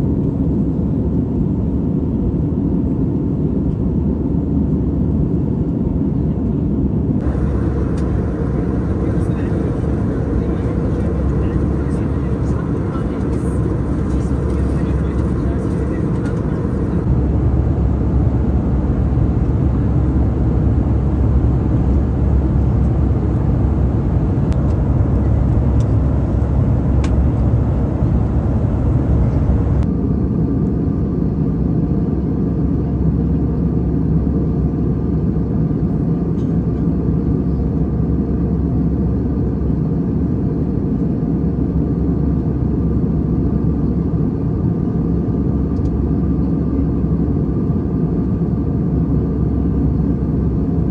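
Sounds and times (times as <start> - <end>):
airliner cabin noise: 0.0 - 50.9.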